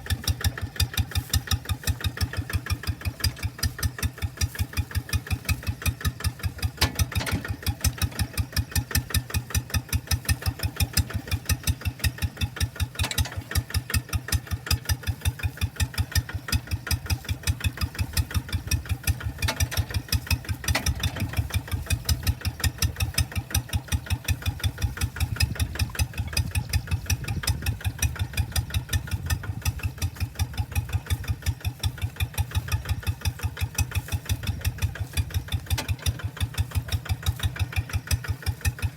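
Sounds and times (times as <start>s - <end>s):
hand tractor engine idling: 0.0s - 38.9s.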